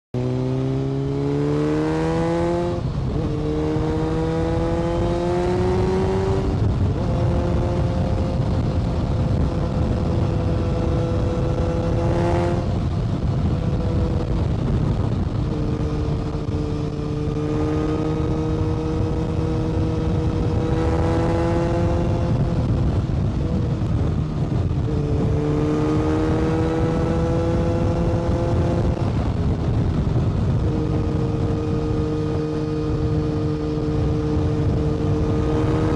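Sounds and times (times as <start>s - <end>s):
motorcycle engine accelerating: 0.2s - 35.9s
road rumble: 0.2s - 35.9s
rushing wind: 0.2s - 35.9s.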